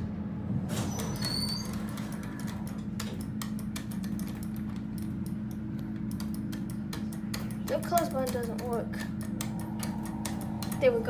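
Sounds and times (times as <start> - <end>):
elevator low hum: 0.0 - 11.0
sharp clicks: 1.6 - 10.9.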